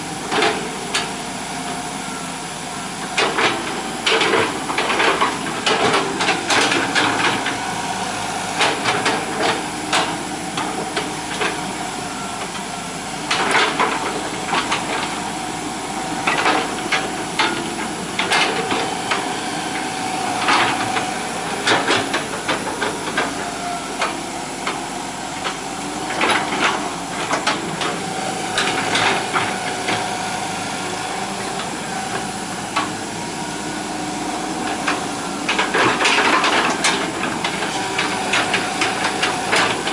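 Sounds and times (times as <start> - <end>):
excavator clanks and knocks: 0.2 - 1.8, 3.0 - 7.8, 8.5 - 39.9.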